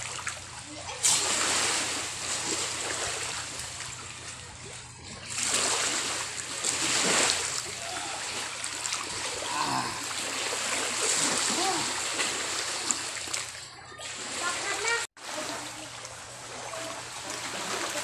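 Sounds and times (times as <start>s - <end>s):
water splashing over wet sand: 1.0s - 3.9s, 5.3s - 18.0s.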